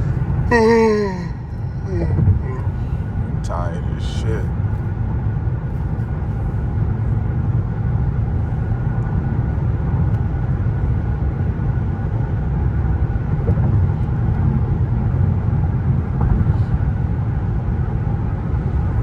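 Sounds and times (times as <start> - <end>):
car road rumble inside: 0.0 - 19.0.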